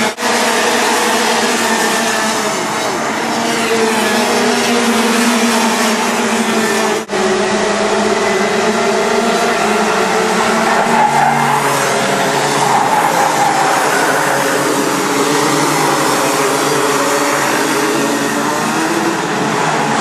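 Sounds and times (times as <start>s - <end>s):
kart engines buzzing by: 0.0s - 20.0s.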